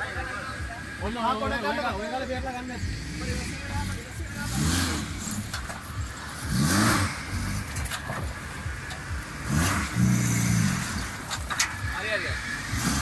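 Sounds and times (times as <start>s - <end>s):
jeep engine revving: 0.0s - 13.0s.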